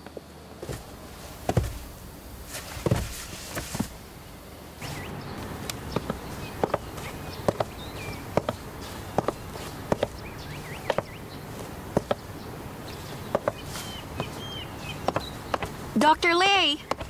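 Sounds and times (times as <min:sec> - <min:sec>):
heel clicks: 0:00.0 - 0:04.0, 0:04.8 - 0:16.0
footsteps on wooden deck: 0:00.0 - 0:04.2, 0:04.8 - 0:17.0
birds chirping faintly: 0:00.0 - 0:17.0.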